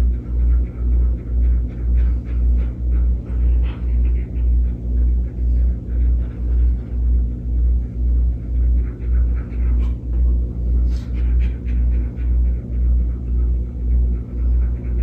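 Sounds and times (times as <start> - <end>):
held low tones: 0.0 - 15.0.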